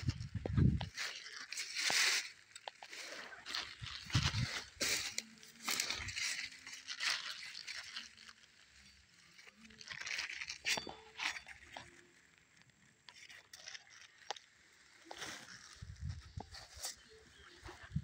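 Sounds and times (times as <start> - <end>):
vines rustling and crunching: 0.0 - 18.0.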